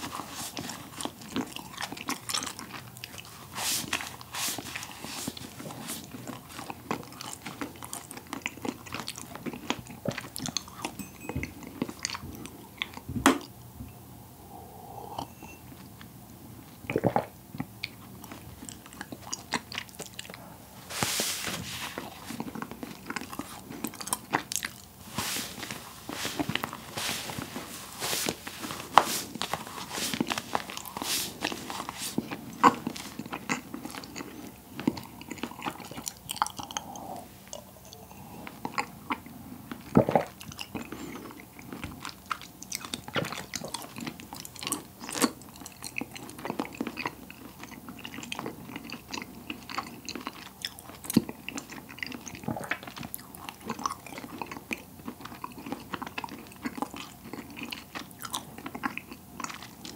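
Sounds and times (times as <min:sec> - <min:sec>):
biting and chewing: 0:00.0 - 0:13.5, 0:16.8 - 0:59.9.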